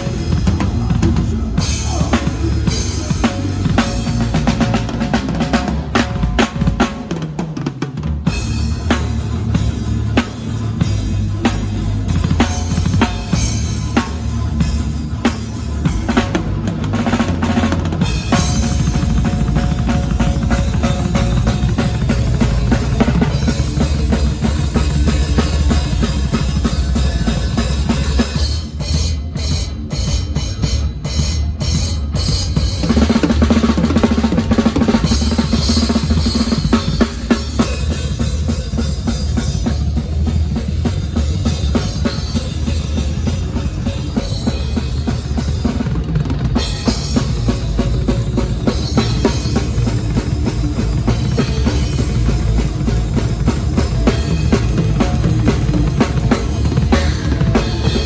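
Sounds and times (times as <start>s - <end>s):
band playing loud: 0.0s - 58.0s
bass drum and snare: 0.0s - 58.0s.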